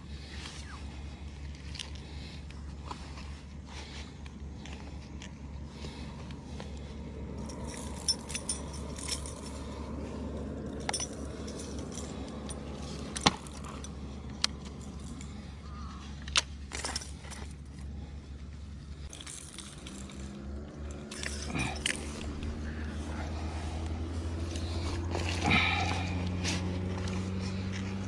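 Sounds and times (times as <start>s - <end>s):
steady low hum: 0.0s - 28.0s
metallic clinks and jingles: 4.2s - 28.0s.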